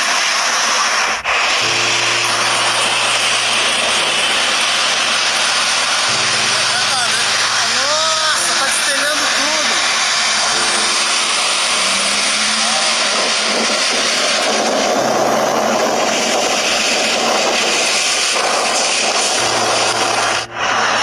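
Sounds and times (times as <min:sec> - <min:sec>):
strong storm wind rushing: 0:00.0 - 0:21.0.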